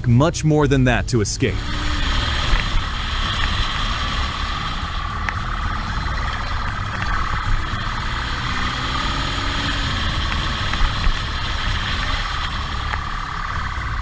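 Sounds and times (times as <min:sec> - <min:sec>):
motorcycle engine running: 0:01.4 - 0:14.0.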